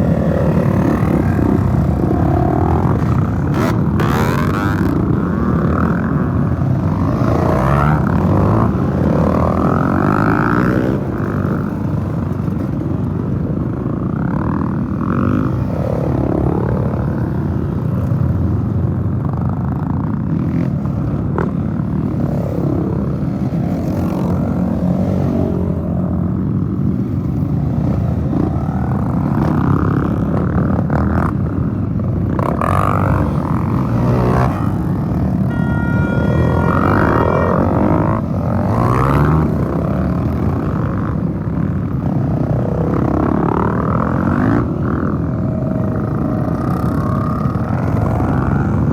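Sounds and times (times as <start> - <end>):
motorcycle engines revving and passing: 0.0 - 48.9.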